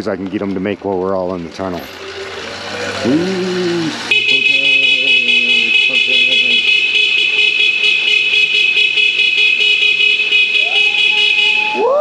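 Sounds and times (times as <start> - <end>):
electric horns honking in a tunnel: 1.8 - 11.9.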